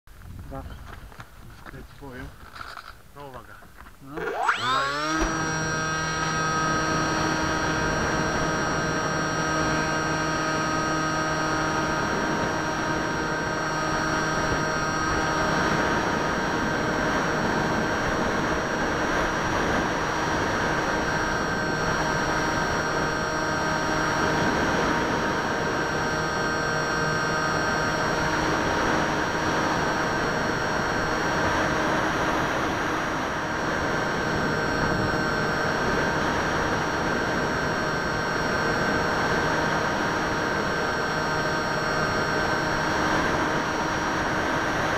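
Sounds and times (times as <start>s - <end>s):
electric motor and propeller whining: 4.0s - 44.9s.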